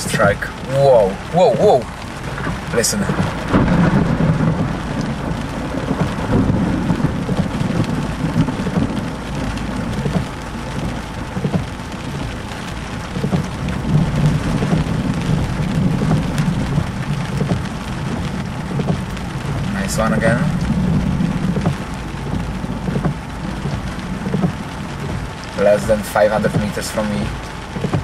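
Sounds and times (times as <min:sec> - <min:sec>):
heavy rain hissing: 0:00.0 - 0:28.0
thunder rumble: 0:00.0 - 0:28.0.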